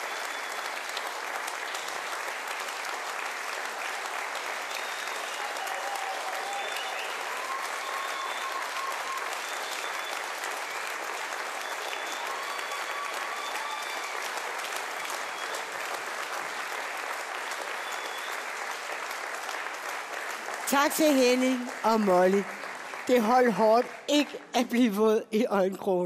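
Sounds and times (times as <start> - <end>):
audience applauding: 0.0 - 24.9.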